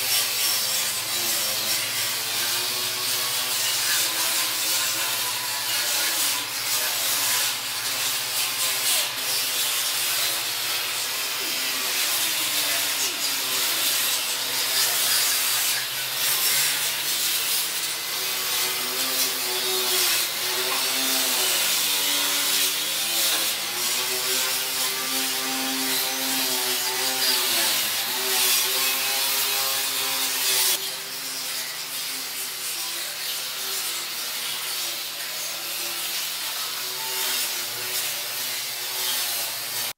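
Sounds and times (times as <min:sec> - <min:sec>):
power grinder sanding metal: 0:00.0 - 0:39.9.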